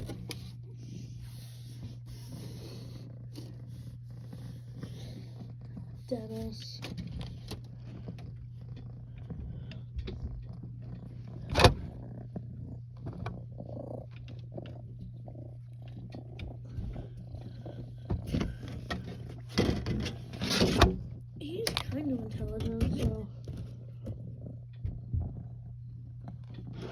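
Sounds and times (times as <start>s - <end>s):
cat purring: 0.0s - 26.9s.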